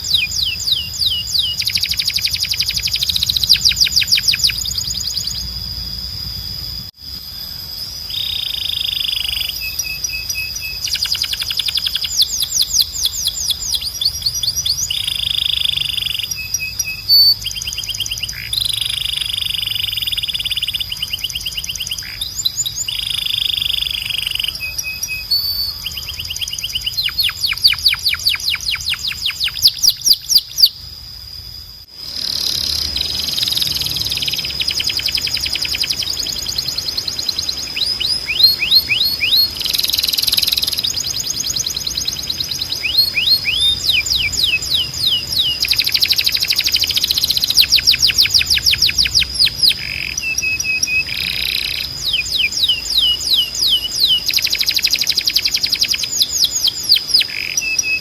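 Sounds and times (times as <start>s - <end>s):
canary singing trills: 0.0s - 30.9s, 32.0s - 58.0s.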